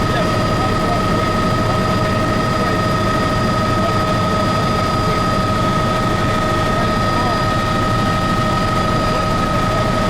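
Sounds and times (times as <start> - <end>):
helicopter engine and rotors: 0.0 - 10.0.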